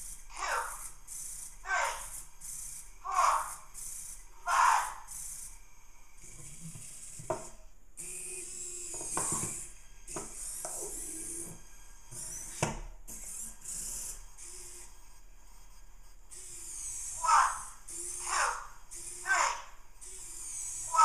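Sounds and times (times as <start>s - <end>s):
robot servo motors whirring: 0.0s - 21.0s.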